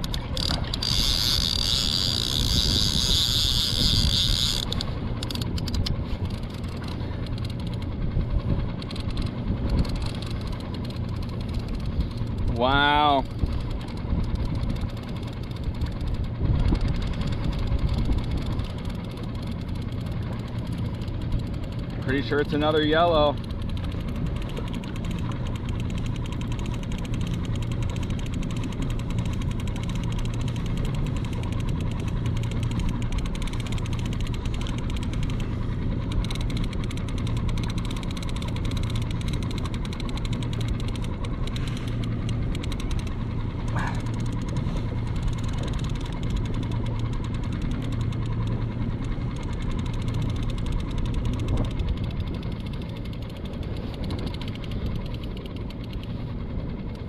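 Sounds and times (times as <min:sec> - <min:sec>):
fishing reel clicking: 0:00.0 - 0:07.9, 0:08.7 - 0:57.0
outboard motor idling: 0:00.0 - 0:57.0.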